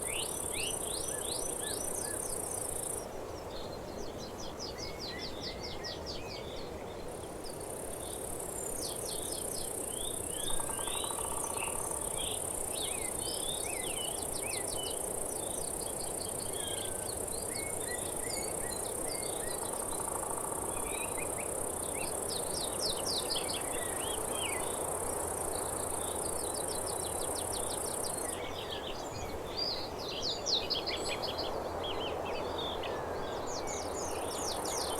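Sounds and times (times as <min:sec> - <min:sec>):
insect drone: 0:00.0 - 0:03.3, 0:07.1 - 0:34.9.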